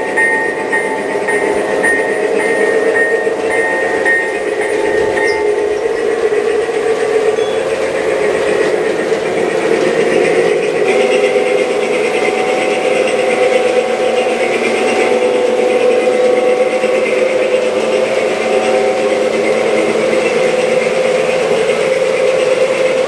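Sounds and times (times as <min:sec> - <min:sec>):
model train whirring on track: 0:00.0 - 0:23.0.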